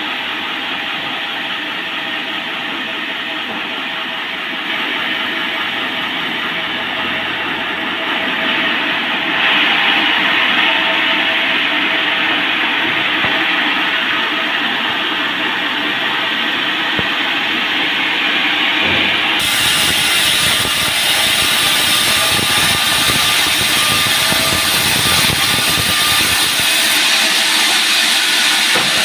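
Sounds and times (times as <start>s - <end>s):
band sawmill cutting a log: 0.4s - 29.0s.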